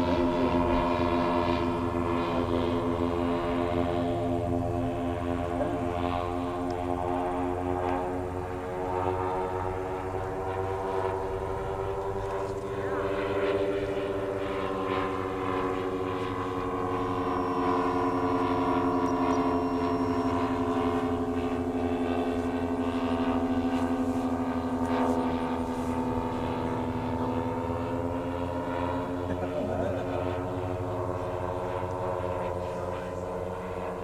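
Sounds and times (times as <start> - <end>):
model aircraft engines droning: 0.0 - 34.0.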